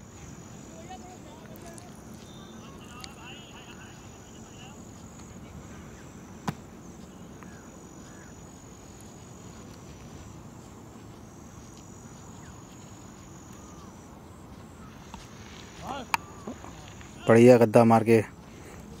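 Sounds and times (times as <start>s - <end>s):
insects trilling: 0.0s - 19.0s
outdoor background noise: 0.0s - 19.0s.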